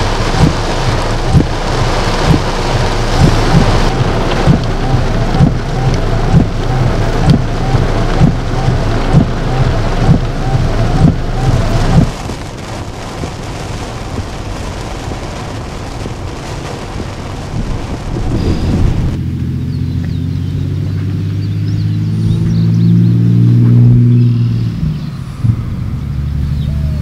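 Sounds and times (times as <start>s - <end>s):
heavy rain on a car: 0.0s - 27.0s
rush of rain while driving: 0.0s - 27.0s.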